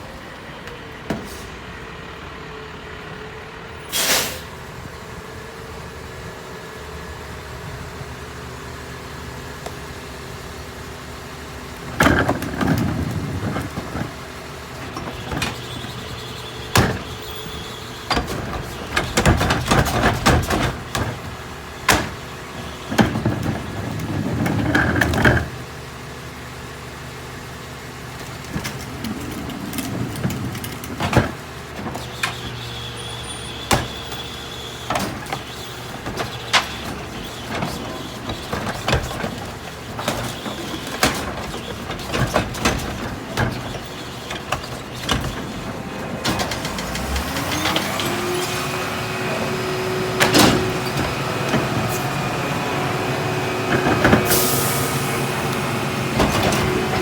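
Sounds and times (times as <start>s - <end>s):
garbage truck running: 0.0s - 57.0s.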